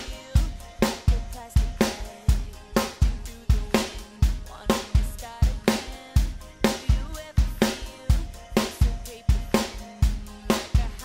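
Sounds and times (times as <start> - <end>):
backing music with melody: 0.0 - 11.0
drum kit steady beat: 0.0 - 11.0.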